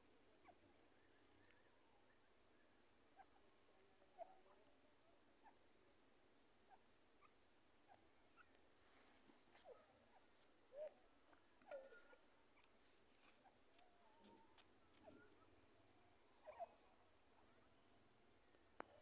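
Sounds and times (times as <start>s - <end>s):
faint bird chirps: 0.0s - 6.0s, 6.6s - 19.0s
crickets droning: 0.0s - 19.0s.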